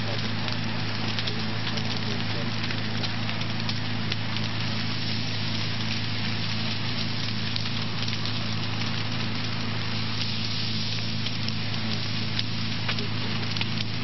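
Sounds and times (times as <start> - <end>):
constant low hum: 0.0 - 14.0
fire crackling and hissing: 0.0 - 14.0.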